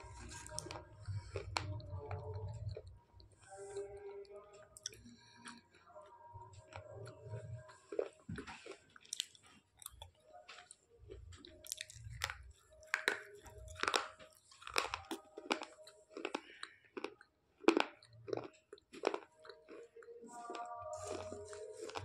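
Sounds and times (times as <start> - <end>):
person chewing crunchy pencil: 0.0 - 22.0.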